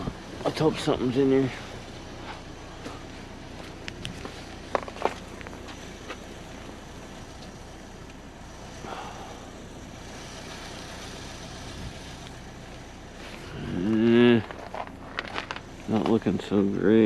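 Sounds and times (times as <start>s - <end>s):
motor vehicle rumble: 0.0s - 17.0s.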